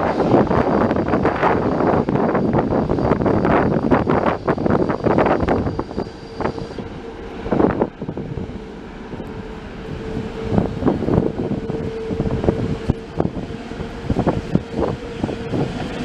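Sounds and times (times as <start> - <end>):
jet engines whining: 0.0 - 16.0
wind buffeting microphone: 0.0 - 16.0.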